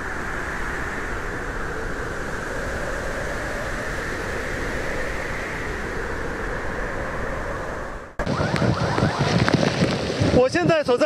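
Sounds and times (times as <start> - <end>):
strong wind rushing: 0.0 - 11.0.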